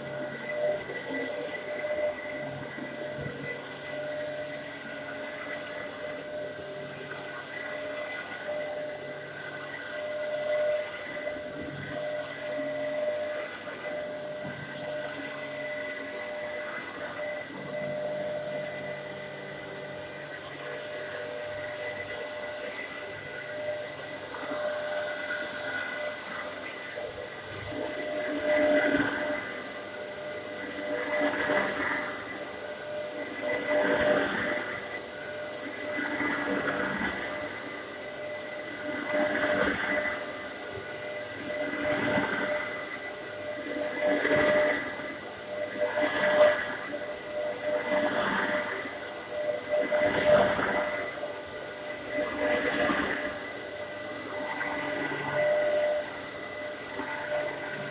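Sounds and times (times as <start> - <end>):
vacuum cleaner motor whine: 0.0 - 57.9.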